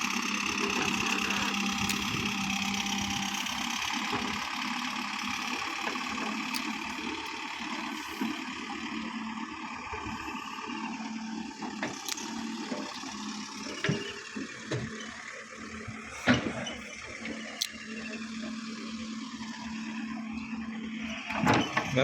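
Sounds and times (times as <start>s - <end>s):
backhoe loader engine humming: 0.0s - 22.0s.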